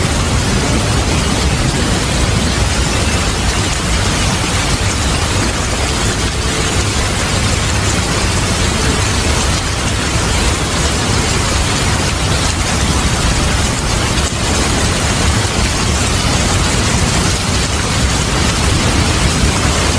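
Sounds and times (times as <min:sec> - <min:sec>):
heavy rain: 0:00.0 - 0:19.9
low rumble of thunder: 0:00.0 - 0:19.9.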